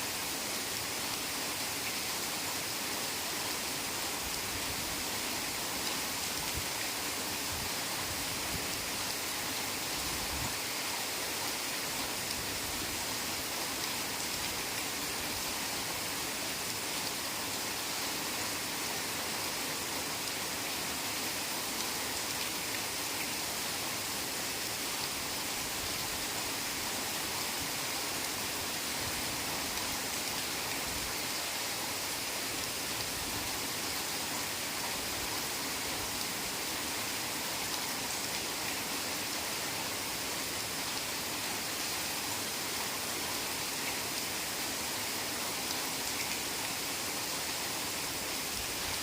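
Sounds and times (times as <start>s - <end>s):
heavy rain on foliage: 0.0s - 49.0s.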